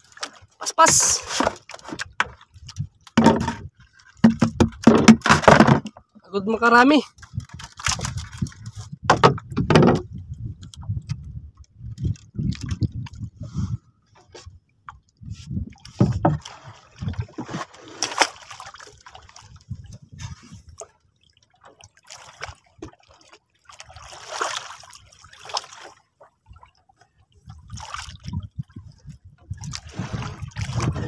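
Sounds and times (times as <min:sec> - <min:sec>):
water splashing against boat hull: 0:00.0 - 0:13.4, 0:14.1 - 0:31.0.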